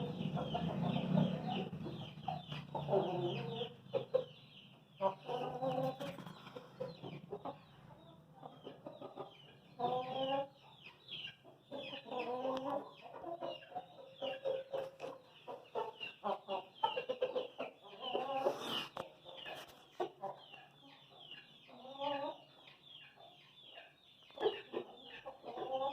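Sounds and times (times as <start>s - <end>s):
chickens clucking and calling: 0.0s - 25.9s.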